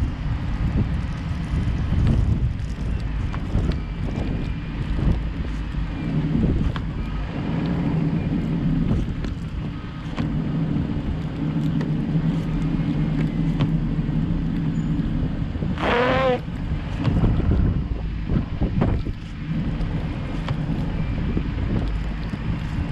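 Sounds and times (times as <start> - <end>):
car engine and road rumble: 0.0 - 22.9.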